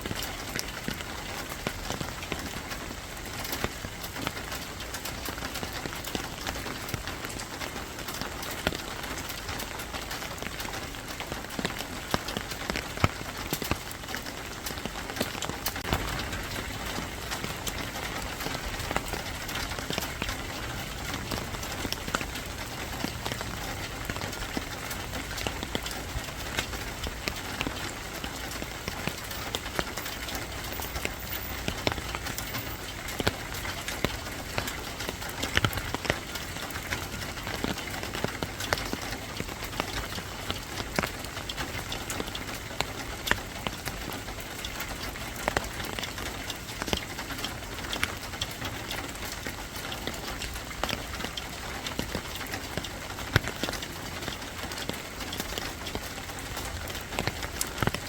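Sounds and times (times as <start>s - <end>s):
raindrops ticking close by: 0.0s - 58.0s
steady rain falling: 0.0s - 58.0s.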